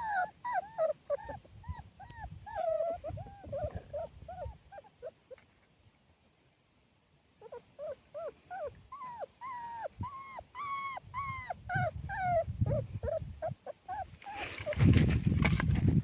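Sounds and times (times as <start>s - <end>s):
puppy whimpering and crying: 0.0s - 5.4s, 7.4s - 14.9s.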